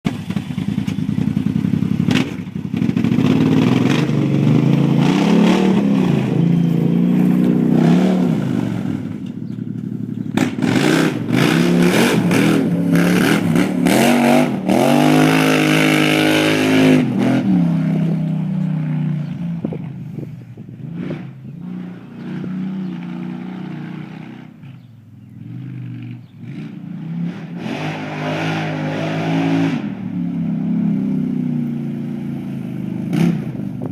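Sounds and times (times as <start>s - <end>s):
engine revving: 0.1s - 20.2s, 20.8s - 33.9s.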